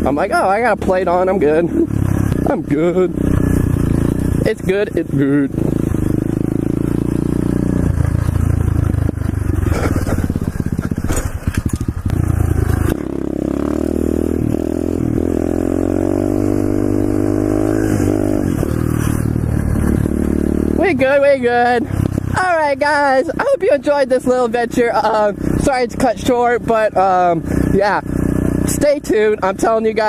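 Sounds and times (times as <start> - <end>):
pit bike engine revving: 0.0 - 30.0.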